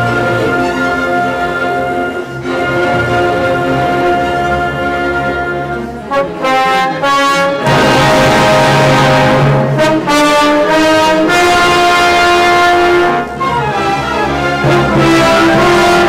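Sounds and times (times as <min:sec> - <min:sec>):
brass section: 0:00.0 - 0:16.0
orchestra playing loud chords: 0:00.0 - 0:16.0.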